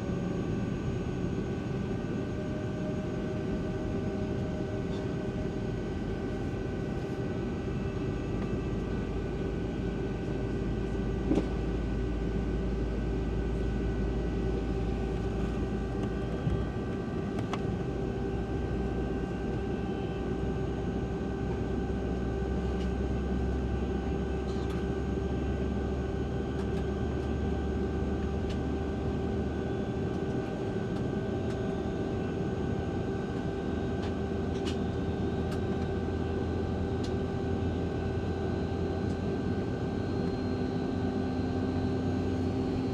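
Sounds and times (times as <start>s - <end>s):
aircraft cabin rumble and hum: 0.0s - 42.9s.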